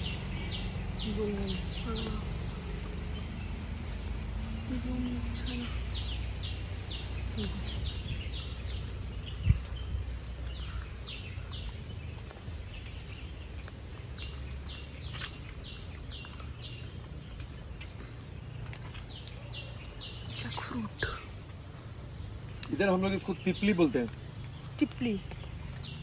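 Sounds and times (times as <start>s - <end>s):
low rumble: 0.0s - 22.7s.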